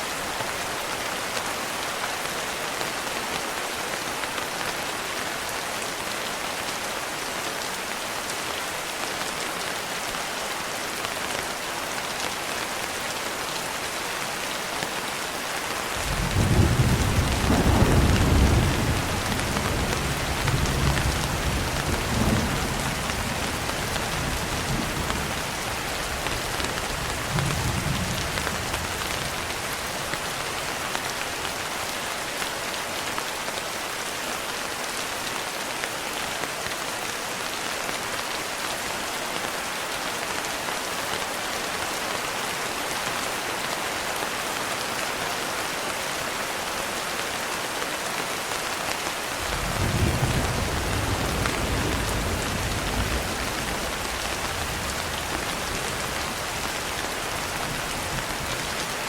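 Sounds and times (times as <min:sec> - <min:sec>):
rain pattering on a window: 0:00.2 - 0:59.0.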